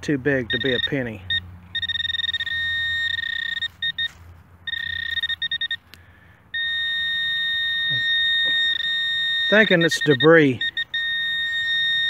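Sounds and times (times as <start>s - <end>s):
metal detector buzzing: 0.5s - 5.8s, 6.6s - 12.0s.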